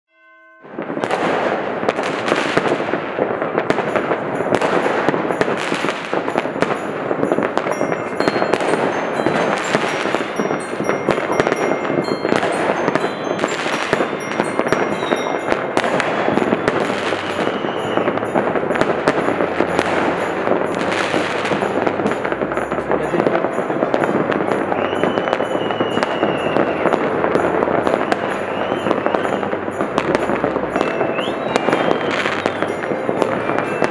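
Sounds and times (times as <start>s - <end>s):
fireworks crackling and popping: 0.6s - 33.9s
firework whistles: 0.8s - 33.9s.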